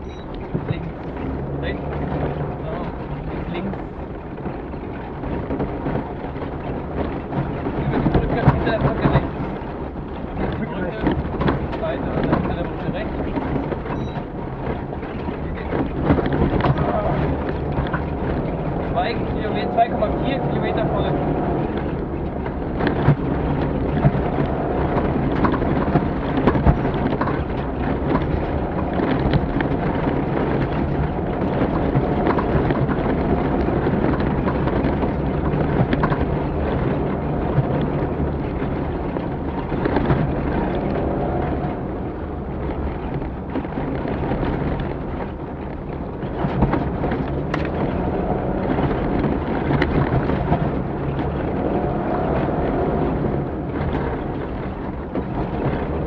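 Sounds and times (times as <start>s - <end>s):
rumbling rattle: 0.0s - 56.0s
vehicle engine drone: 0.0s - 56.0s.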